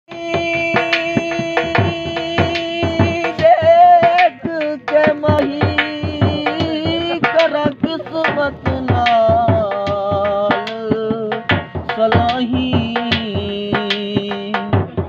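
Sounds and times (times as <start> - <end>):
quick drum beat: 0.1 - 15.0.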